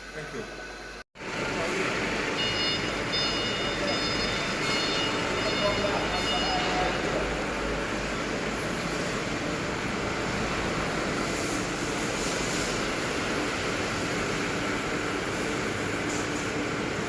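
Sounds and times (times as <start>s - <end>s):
factory machinery rushing: 1.2s - 17.0s.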